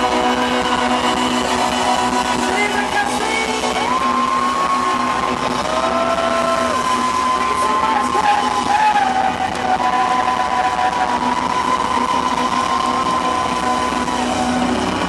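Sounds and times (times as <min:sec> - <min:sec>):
crowd noise: 0:00.0 - 0:15.0
live rock-pop band playing: 0:00.0 - 0:15.0.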